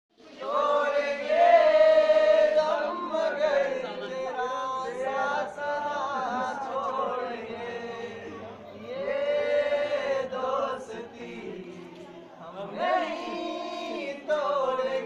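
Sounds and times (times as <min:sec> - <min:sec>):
young men singing unaccompanied: 0:00.3 - 0:15.0.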